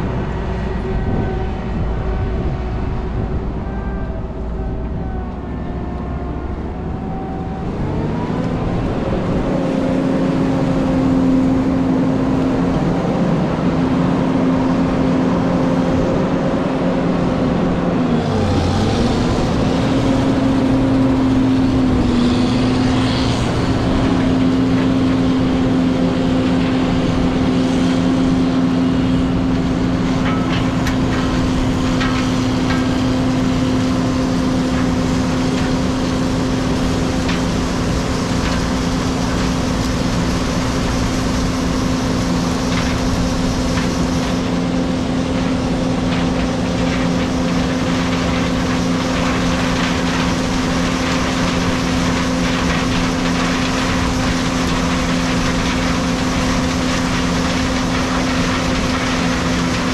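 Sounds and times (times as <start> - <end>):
combine harvester engine hum: 0.0 - 59.9.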